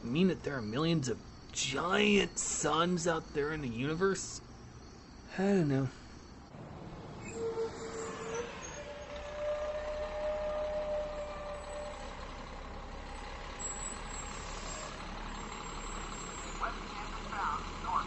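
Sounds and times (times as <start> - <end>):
heavy truck rumbling: 0.0 - 18.0
steady whining tone: 0.6 - 18.0.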